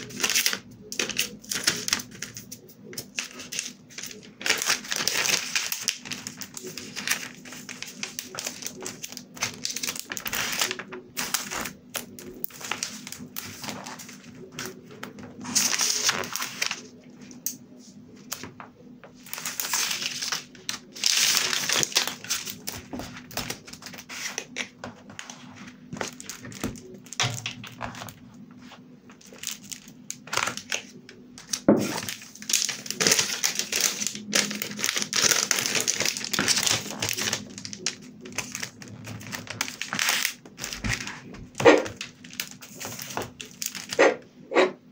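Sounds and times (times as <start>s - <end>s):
paper sheets crinkling and rustling: 0.0s - 44.0s.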